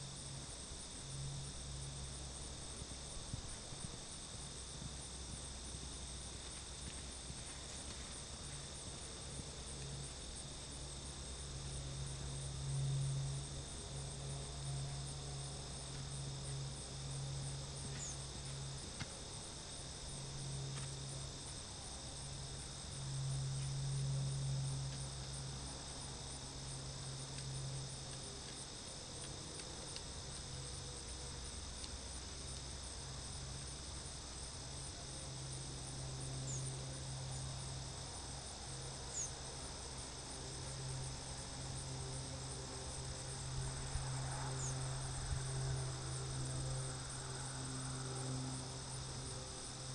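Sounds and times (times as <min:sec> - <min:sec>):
insects chirring: 0:00.0 - 0:49.9
low hum: 0:00.0 - 0:49.9.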